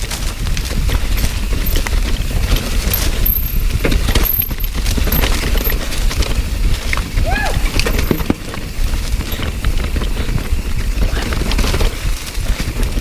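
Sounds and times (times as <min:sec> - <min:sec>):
bike knocking and rattling: 0:00.0 - 0:13.0
steady low rumble: 0:00.0 - 0:13.0.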